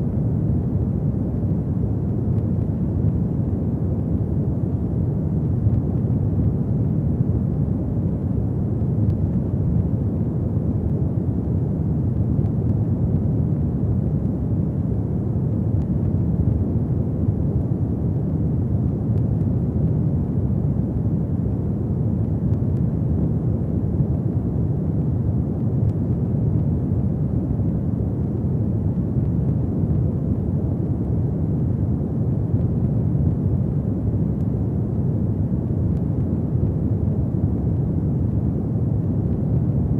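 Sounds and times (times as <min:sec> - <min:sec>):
faint fire crackles: 0:00.0 - 0:39.9
fire burning with low roar: 0:00.0 - 0:39.9.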